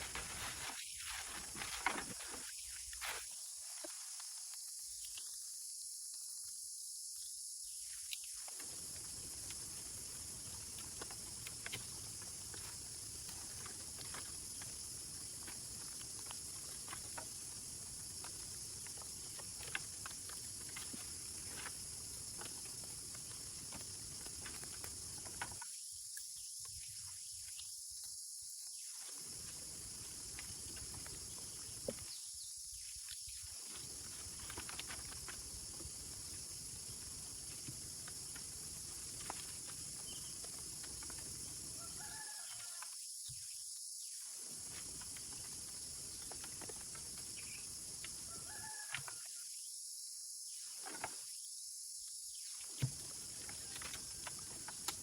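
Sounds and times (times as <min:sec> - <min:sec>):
steady high-pitched hiss: 0:00.0 - 0:55.0.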